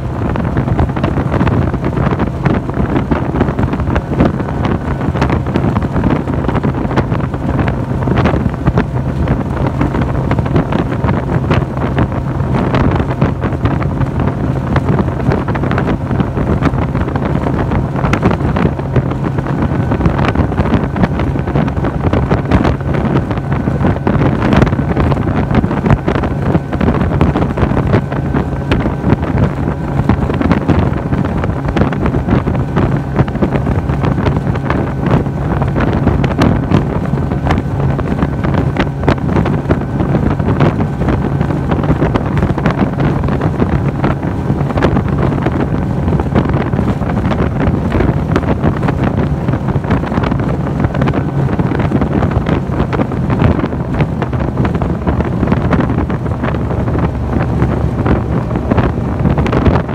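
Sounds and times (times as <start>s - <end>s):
outboard engine droning: 0.0s - 59.9s
wind buffeting microphone: 0.0s - 59.9s.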